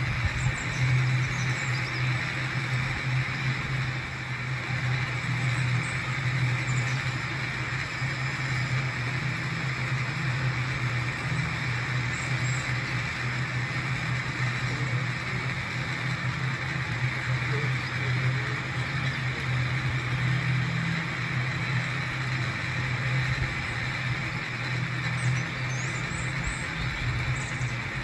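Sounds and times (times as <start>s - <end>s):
railway car rumbling on rails: 0.0s - 28.0s.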